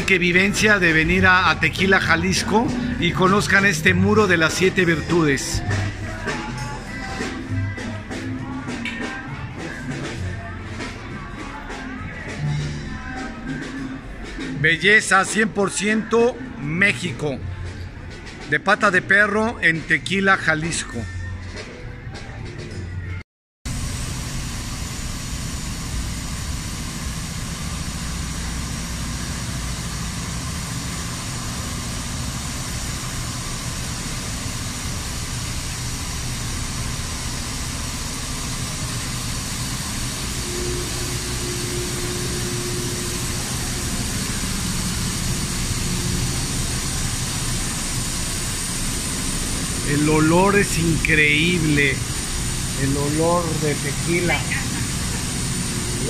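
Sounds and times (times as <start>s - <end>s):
machinery rush of pumps and fans: 0.0s - 23.1s, 23.7s - 56.0s.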